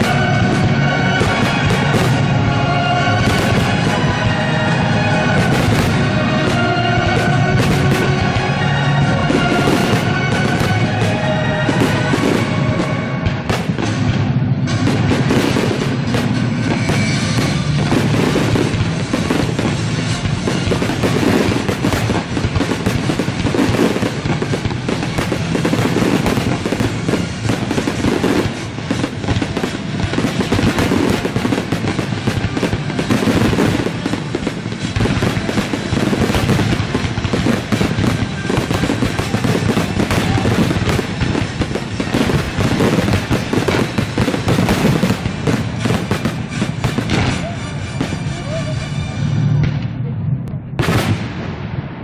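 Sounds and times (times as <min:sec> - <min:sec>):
fireworks bangs and crackling: 0:00.0 - 0:50.0, 0:50.6 - 0:52.0.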